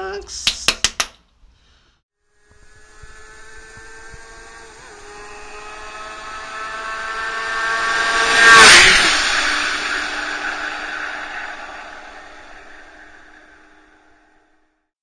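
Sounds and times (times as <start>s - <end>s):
motorcycle passing at high revs: 2.2s - 14.4s.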